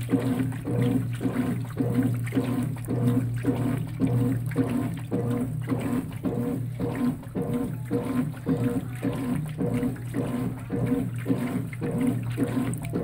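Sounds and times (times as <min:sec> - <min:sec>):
washing machine hum: 0:00.0 - 0:13.0
water rushing into washing machine: 0:00.0 - 0:13.0.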